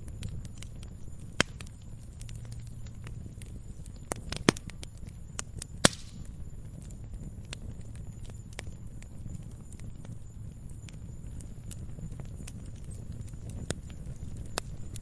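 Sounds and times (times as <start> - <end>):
campfire crackling and popping: 0.0 - 15.0
low rumble of flame: 0.0 - 15.0.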